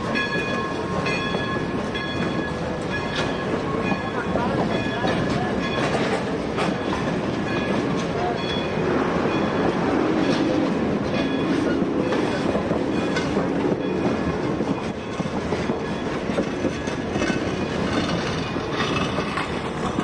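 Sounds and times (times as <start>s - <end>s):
train wheels clicking over rail joints: 0.0s - 20.0s.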